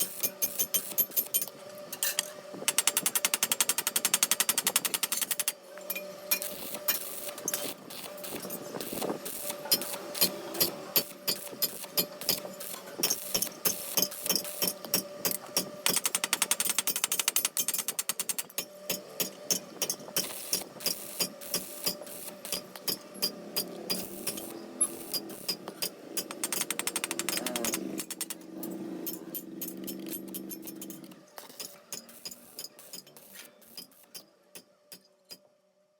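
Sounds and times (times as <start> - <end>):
welding arc crackling and popping: 2.7 - 5.6, 6.3 - 34.2.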